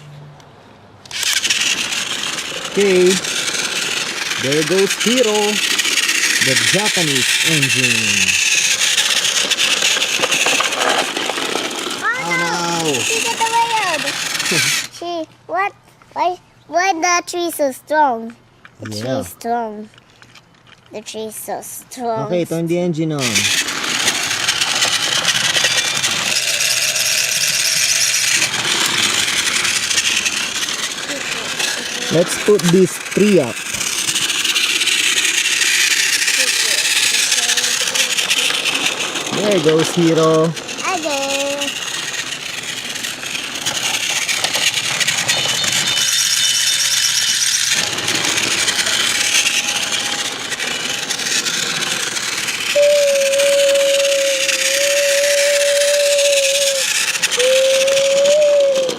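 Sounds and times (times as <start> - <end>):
toy train motor whirring: 1.0 - 15.6, 16.8 - 58.9
wheels rattling on plastic rails: 1.1 - 15.2, 23.2 - 58.9.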